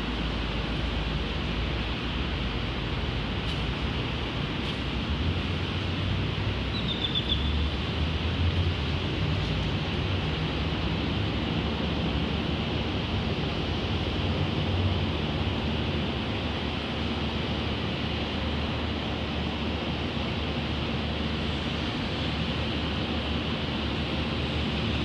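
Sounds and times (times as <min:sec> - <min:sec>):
distant traffic noise: 0:00.0 - 0:25.0.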